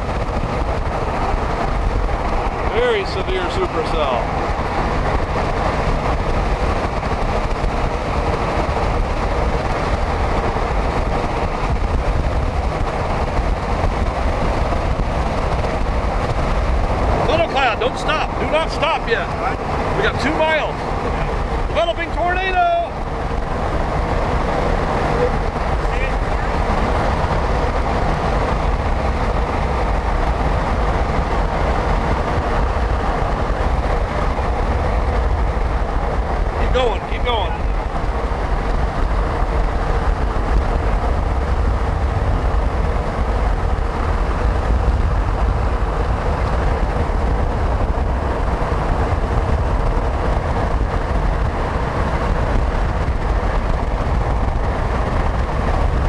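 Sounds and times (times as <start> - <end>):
road and wind rush in van: 0.0 - 56.0.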